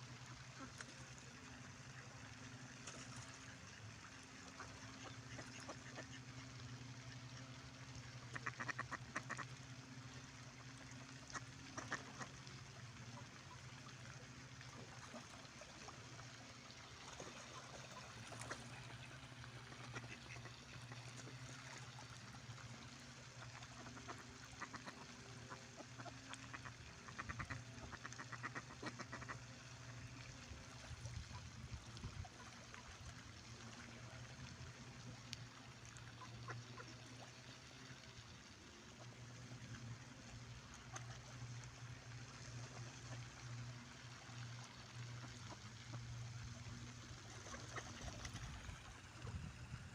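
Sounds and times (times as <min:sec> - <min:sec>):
ducks quacking faintly: 0:00.2 - 0:49.9.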